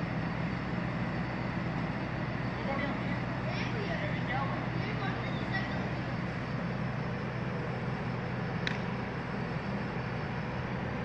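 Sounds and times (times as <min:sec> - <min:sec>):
noisy outdoor background: 0:00.0 - 0:11.0
steady low hum: 0:00.0 - 0:11.0.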